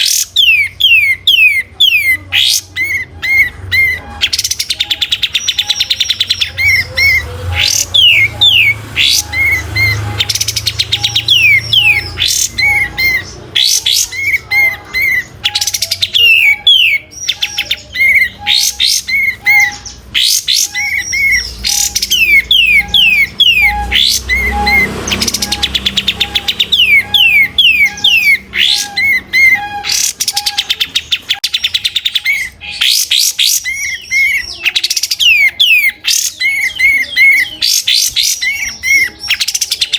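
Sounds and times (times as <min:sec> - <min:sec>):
songbird chattering: 0:00.0 - 0:39.9.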